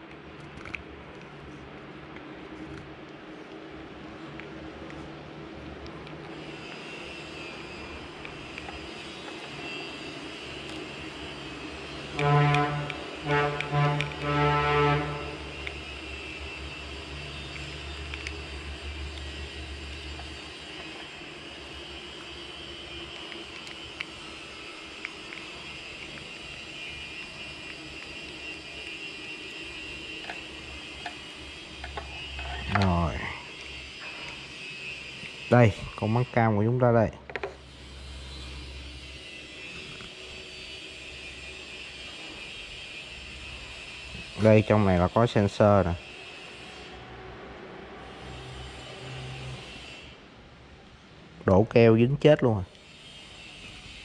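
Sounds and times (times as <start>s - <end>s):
room noise drone: 0.0s - 54.0s.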